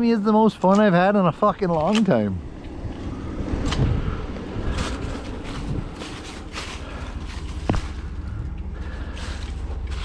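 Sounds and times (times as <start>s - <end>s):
vehicle rumbling along road: 0.0s - 10.0s.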